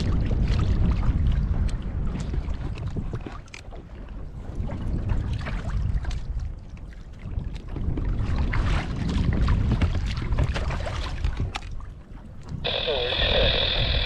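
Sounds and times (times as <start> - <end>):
water splashing against kayak hull: 0.0 - 14.0
wind rumbling on microphone: 0.0 - 14.0.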